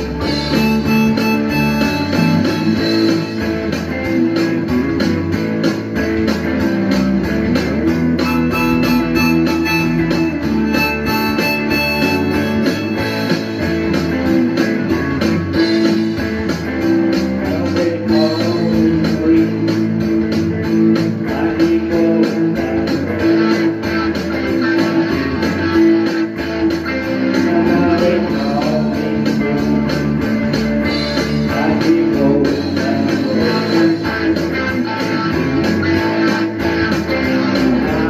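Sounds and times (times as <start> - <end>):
electric guitar strumming: 0.0 - 38.0.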